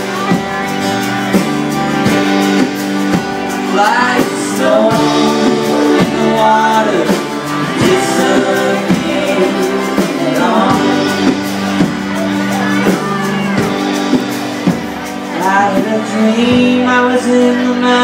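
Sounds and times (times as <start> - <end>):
live band playing: 0.0 - 18.0
strummed acoustic guitar: 0.0 - 18.0.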